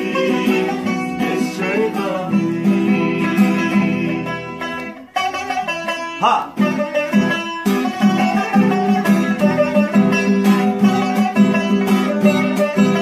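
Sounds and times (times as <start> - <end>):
plucked string instrumental music: 0.0 - 13.0.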